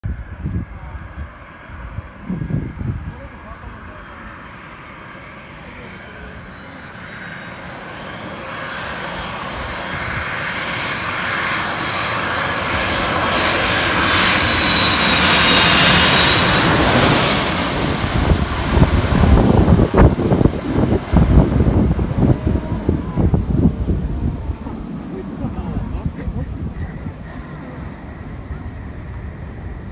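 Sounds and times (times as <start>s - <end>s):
airliner passing overhead: 0.1s - 29.9s.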